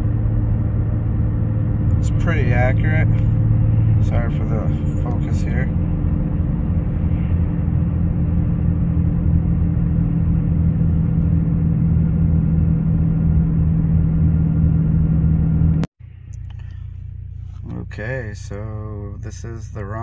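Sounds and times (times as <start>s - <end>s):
car cabin engine and road drone: 0.0s - 20.0s.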